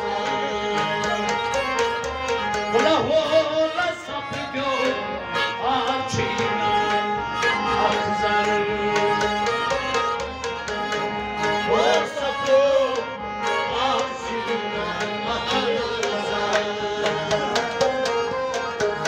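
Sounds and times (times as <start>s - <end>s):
man singing: 0.0s - 1.8s, 2.5s - 19.0s
harmonium chords: 0.0s - 19.0s.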